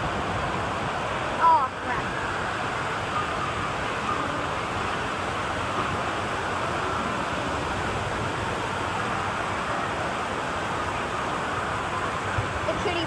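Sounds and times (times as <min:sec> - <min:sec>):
distant crowd noise: 0:00.0 - 0:13.0
running and splashing water: 0:00.0 - 0:13.0.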